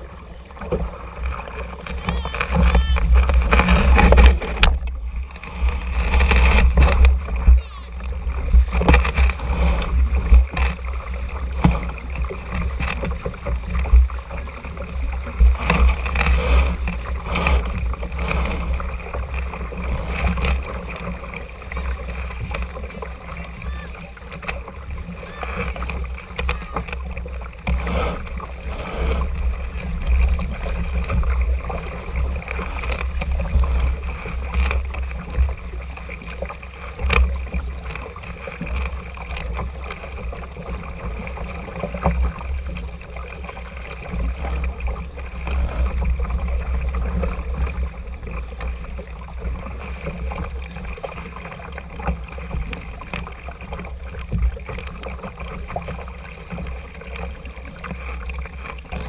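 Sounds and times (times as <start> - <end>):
water rushing along a hull: 0.0 - 59.0
wind rumbling on microphone: 0.0 - 59.0.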